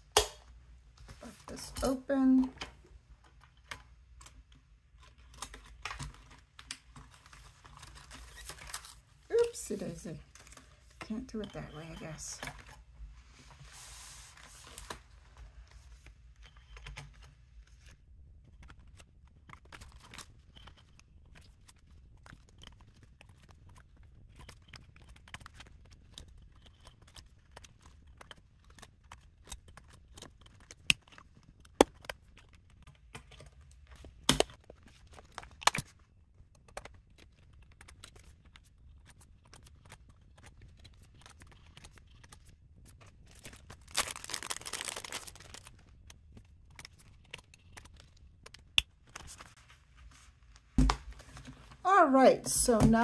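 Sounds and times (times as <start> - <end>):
plastic dividers rustling and crinkling: 0.4 - 53.0.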